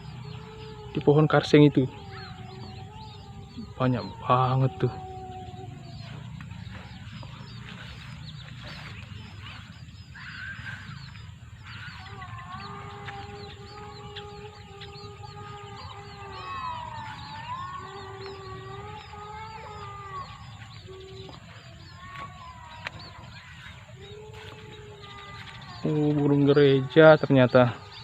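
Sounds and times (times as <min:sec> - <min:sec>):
small birds chirping: 0:00.0 - 0:28.0
steady pitched hum: 0:00.0 - 0:28.0.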